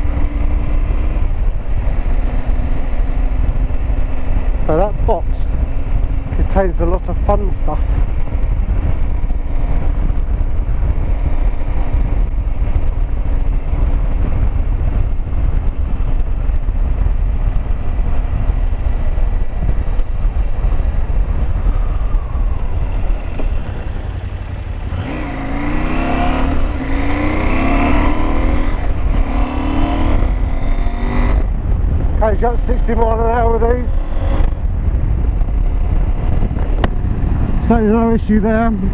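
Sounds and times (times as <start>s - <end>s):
motorcycle engine accelerating: 0.0s - 38.9s
wind rumble: 0.0s - 38.9s.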